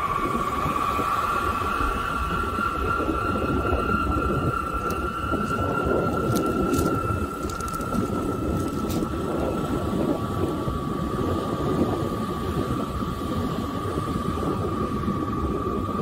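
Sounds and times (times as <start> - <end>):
harp strings humming in wind: 0.0 - 16.0
wind rumble on microphone: 0.0 - 16.0.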